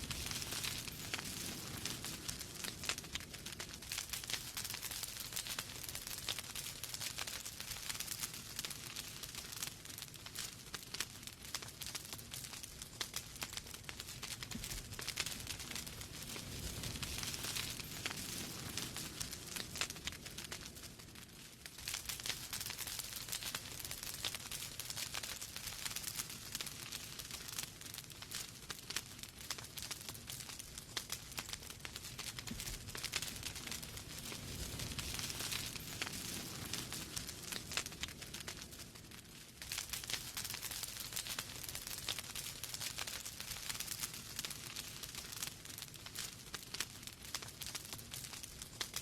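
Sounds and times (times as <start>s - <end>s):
fire crackling: 0.0s - 49.0s
low rumble of flames: 0.0s - 49.0s.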